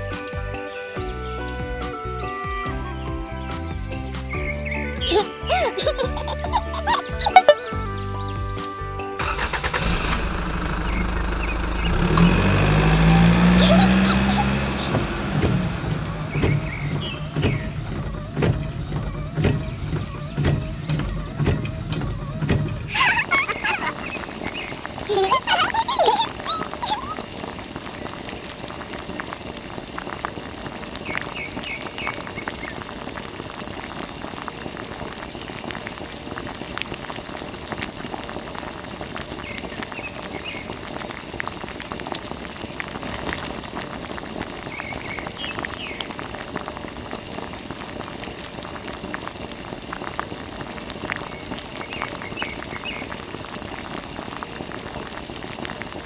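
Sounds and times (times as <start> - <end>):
water trickling and splashing: 9.2 - 56.0.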